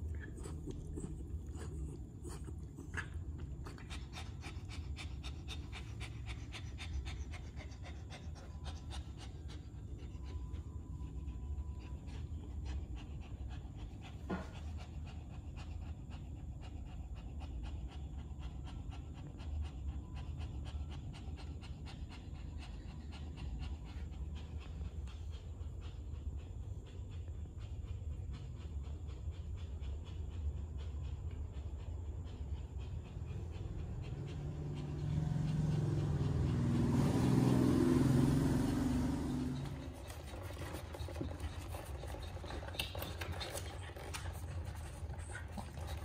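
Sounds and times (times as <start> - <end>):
dog panting: 0.0 - 46.0.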